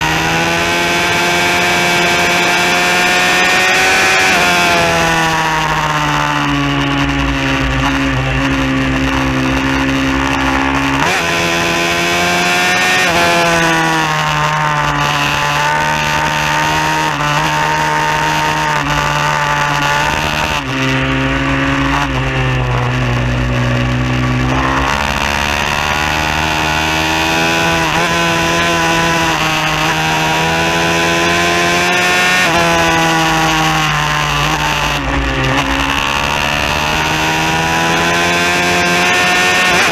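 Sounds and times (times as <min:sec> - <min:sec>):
pit bike engine racing: 0:00.0 - 0:39.9.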